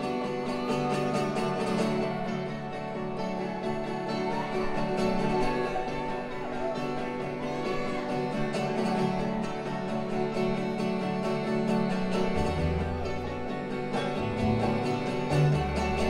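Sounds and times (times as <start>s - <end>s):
acoustic folk band playing: 0.0s - 16.0s.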